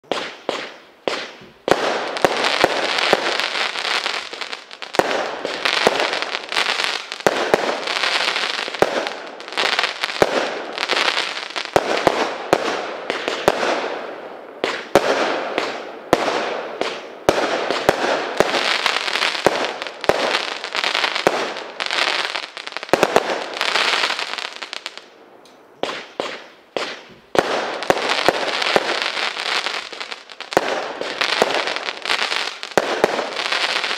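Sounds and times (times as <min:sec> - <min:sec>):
fireworks firing sharp reports: 0:00.0 - 0:25.0, 0:25.8 - 0:33.9.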